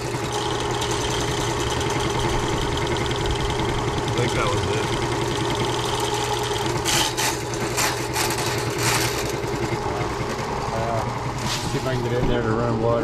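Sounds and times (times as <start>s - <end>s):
drain cleaning machine motor humming: 0.0s - 13.0s.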